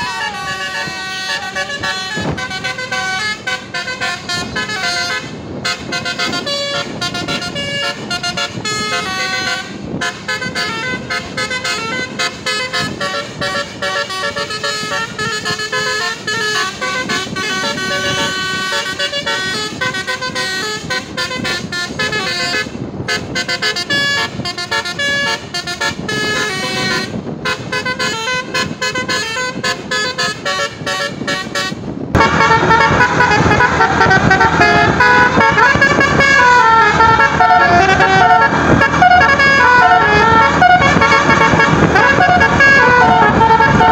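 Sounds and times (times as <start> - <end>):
musical bus horn playing a tune: 0.0 - 43.9.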